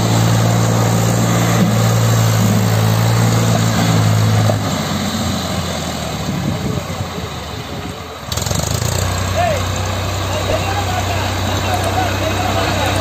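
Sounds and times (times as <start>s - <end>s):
tractor engine running under load: 0.0s - 13.0s.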